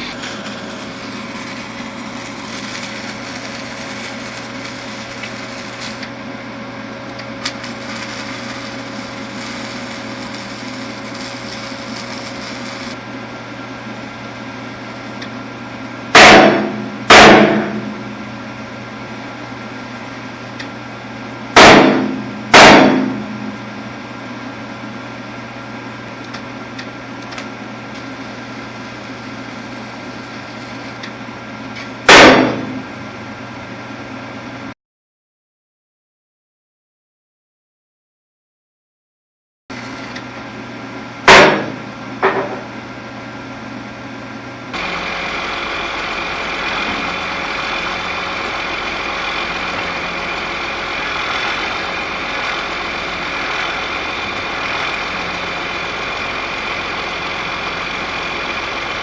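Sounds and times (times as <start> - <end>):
steady mechanical hum: 0.0 - 34.8, 39.7 - 59.0.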